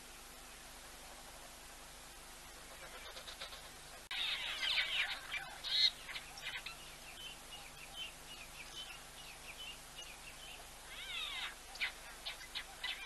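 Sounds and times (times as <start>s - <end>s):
birds chirping: 2.2s - 13.0s.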